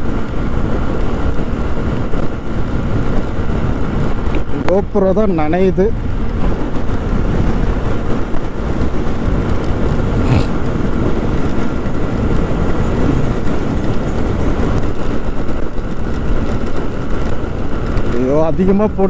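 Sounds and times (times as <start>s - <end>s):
motorcycle engine and road noise: 0.0s - 19.0s
wind rush: 0.0s - 19.0s.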